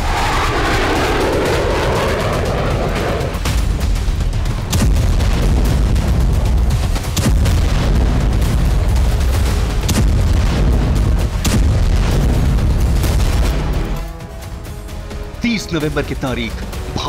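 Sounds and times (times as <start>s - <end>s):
heavy explosion booms: 0.0s - 13.9s
deep rumble: 0.0s - 15.4s.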